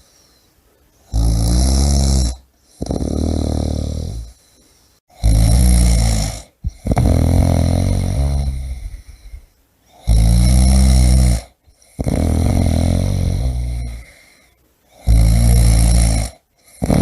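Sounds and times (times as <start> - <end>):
person snoring: 1.1 - 4.4, 5.1 - 17.0.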